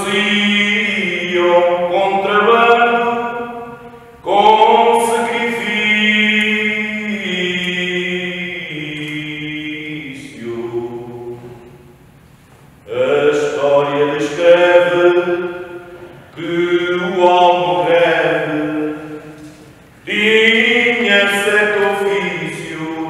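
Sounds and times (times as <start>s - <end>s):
choir singing unaccompanied: 0.0s - 11.8s, 12.9s - 23.0s.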